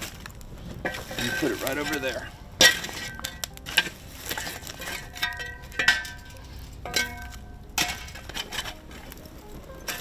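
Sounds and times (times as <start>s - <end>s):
metal shovel scraping in fire pit: 0.0s - 10.0s.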